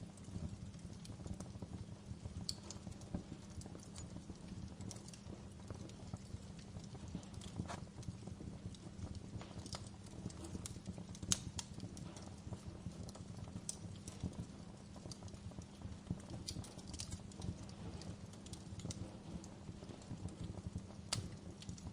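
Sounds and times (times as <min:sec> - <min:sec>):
low rumble of flames: 0:00.0 - 0:21.9
wood fire crackling: 0:00.0 - 0:21.9.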